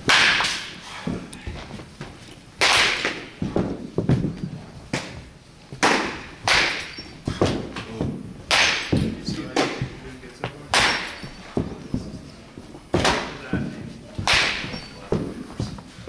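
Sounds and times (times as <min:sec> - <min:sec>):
baseball bat striking balls: 0:00.0 - 0:15.9.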